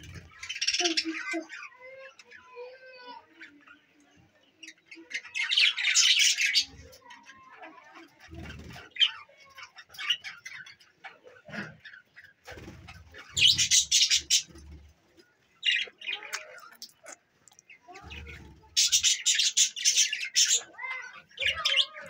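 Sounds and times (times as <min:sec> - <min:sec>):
budgerigars chirping and squawking: 0:00.0 - 0:22.0.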